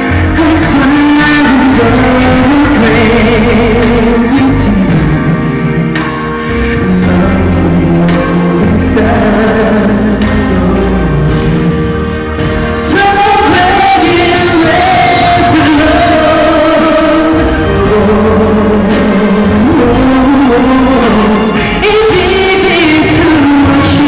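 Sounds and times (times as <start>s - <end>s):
band accompaniment: 0.0s - 24.0s
man singing a ballad: 0.0s - 24.0s.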